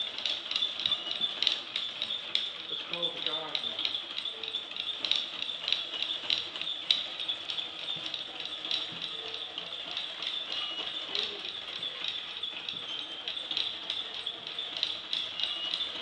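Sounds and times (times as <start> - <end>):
mechanism clicking and rattling: 0.0 - 16.0.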